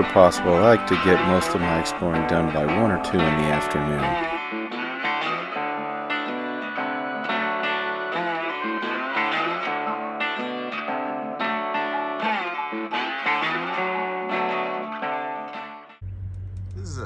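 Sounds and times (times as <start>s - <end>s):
plucked guitar with bent notes: 0.0s - 17.0s.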